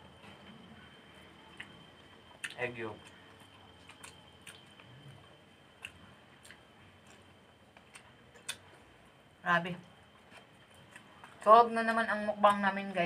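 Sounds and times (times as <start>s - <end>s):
people chewing food: 0.0s - 12.9s.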